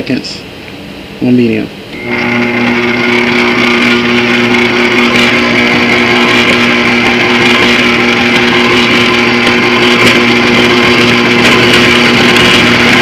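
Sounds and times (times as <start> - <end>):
stand mixer motor humming: 2.0 - 13.0.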